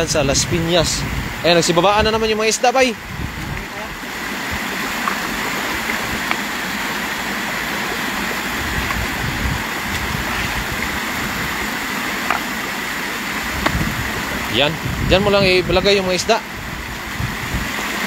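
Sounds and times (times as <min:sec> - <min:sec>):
water rushing into a stream: 0:00.2 - 0:18.0.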